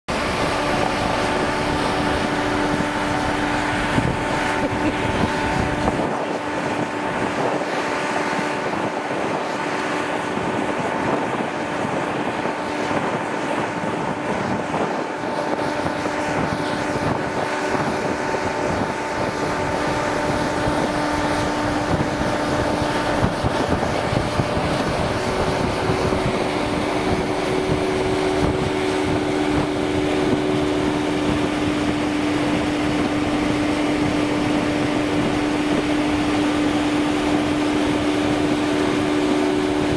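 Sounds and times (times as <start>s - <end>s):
diesel engine running: 0.1s - 39.9s
wind noise on microphone: 0.1s - 39.9s.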